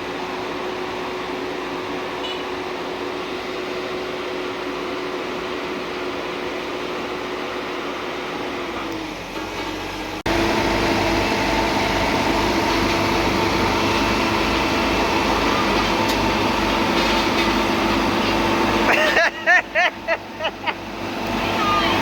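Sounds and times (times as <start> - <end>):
road roller engine running: 0.0 - 22.0.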